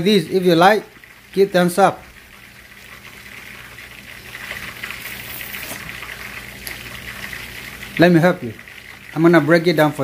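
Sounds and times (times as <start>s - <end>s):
hot oil sizzling and crackling: 0.0s - 10.0s.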